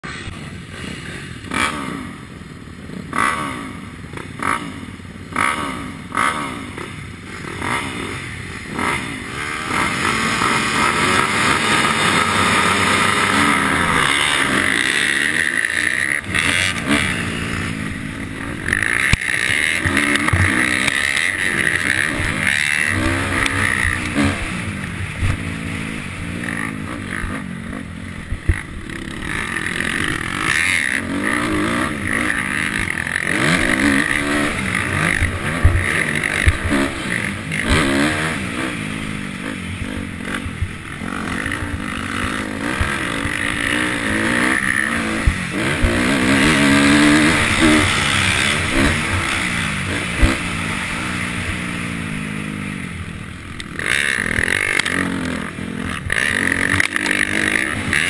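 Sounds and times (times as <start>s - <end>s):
motocross bike engine revving: 0.0s - 58.0s
other motorbikes nearby: 0.0s - 58.0s.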